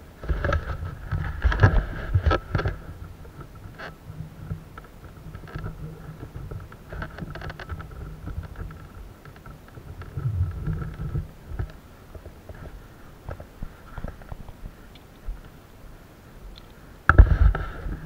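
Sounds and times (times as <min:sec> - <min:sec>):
grass rustling: 0:00.0 - 0:18.0
wind rumbling on microphone: 0:00.0 - 0:18.0.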